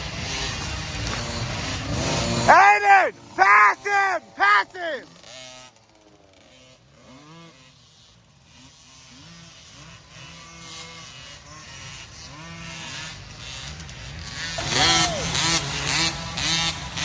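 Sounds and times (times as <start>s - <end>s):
dirt bikes revving: 0.0s - 17.0s.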